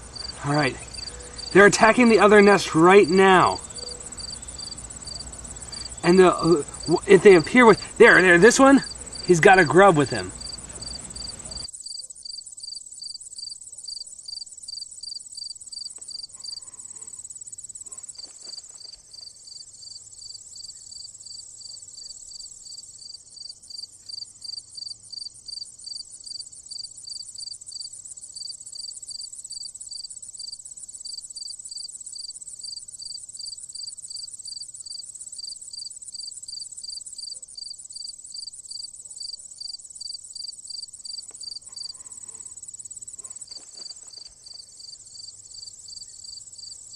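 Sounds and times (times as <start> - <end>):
insect chirping: 0.0 - 46.9
insects buzzing: 0.0 - 46.9.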